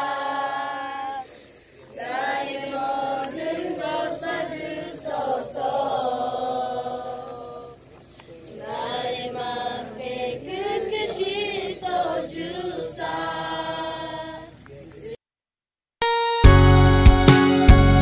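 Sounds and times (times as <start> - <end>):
group singing a slow song: 0.0 - 14.8.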